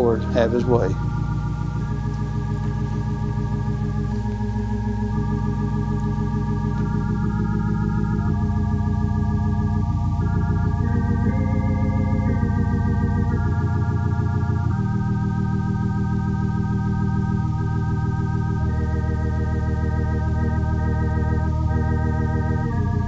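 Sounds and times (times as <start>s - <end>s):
organ playing slow chords: 0.0s - 23.0s.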